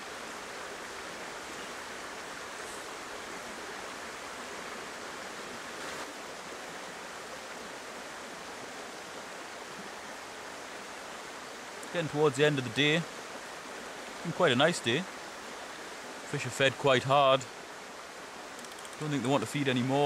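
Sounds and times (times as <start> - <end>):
river water running over rocks: 0.0 - 20.0.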